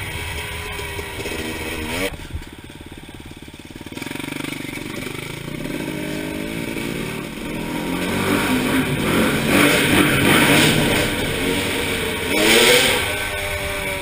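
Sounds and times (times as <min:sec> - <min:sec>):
dirt bike engine accelerating: 0:00.0 - 0:14.0.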